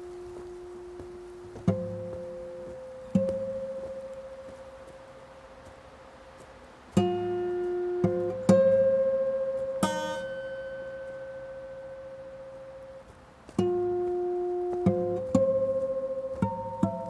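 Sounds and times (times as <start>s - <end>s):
plucked guitar notes and chords: 0.0s - 5.2s, 6.9s - 17.0s.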